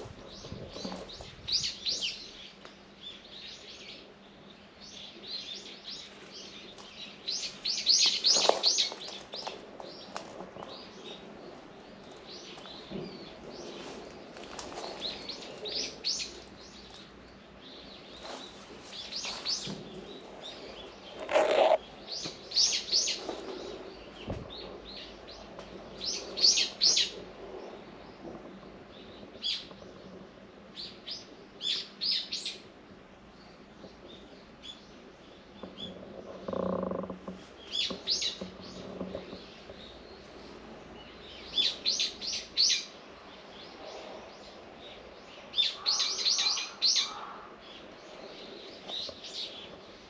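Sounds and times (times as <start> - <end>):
songbirds chirping: 0.0 - 50.0.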